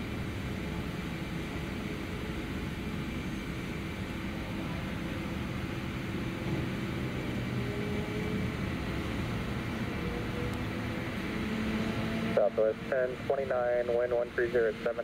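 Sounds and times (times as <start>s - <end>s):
faint steady tones: 0.0s - 15.0s
jet engine noise: 0.0s - 15.0s.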